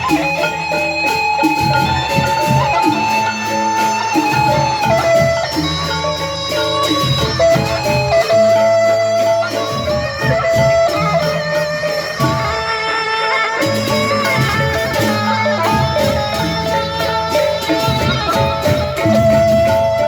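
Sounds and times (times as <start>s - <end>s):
instrumental ensemble music: 0.0s - 20.0s.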